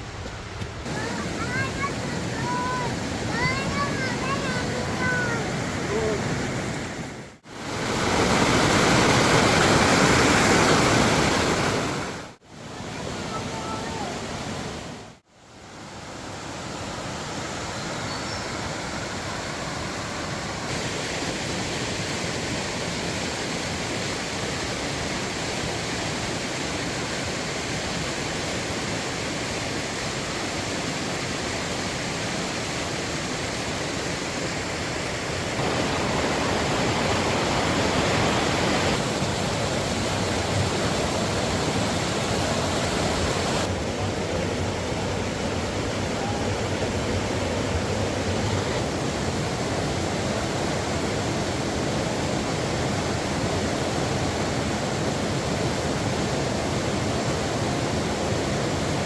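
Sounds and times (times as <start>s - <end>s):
rushing floodwater roar: 0.0s - 59.0s.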